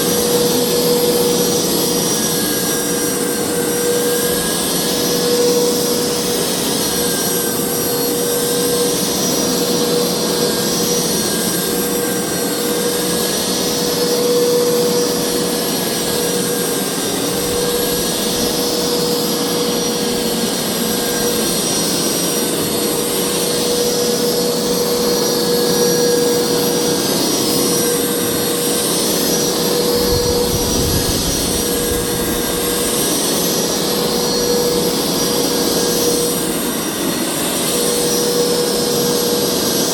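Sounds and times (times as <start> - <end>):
carpet cleaner motor whining: 0.0 - 39.9.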